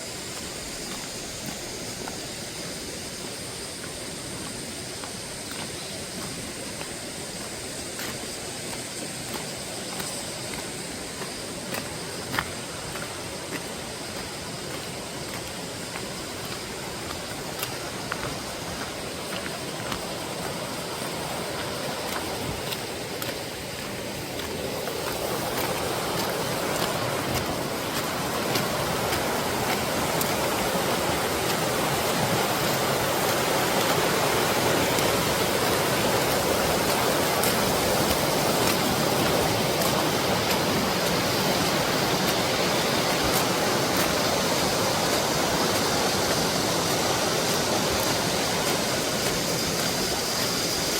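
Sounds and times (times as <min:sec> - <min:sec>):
stream rushing over rocks: 0:00.0 - 0:50.9.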